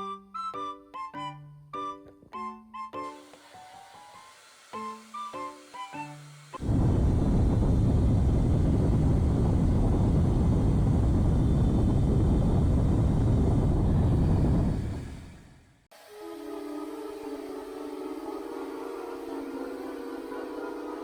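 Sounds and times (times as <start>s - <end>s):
hair dryer blowing: 3.0s - 21.0s.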